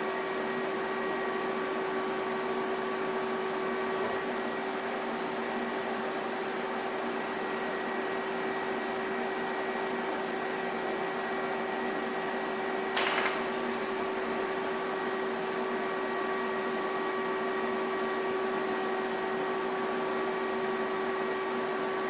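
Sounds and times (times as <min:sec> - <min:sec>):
welder electrical hum: 0:00.0 - 0:22.0.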